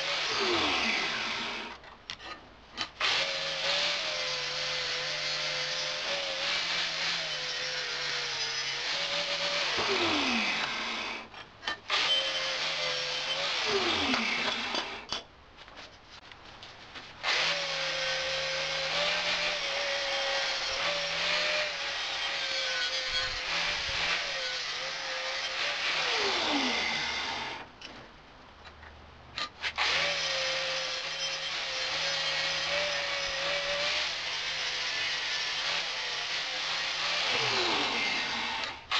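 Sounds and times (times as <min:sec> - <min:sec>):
power tool whining on steel: 0:03.0 - 0:11.3, 0:11.9 - 0:15.1, 0:17.2 - 0:27.7, 0:29.6 - 0:38.9.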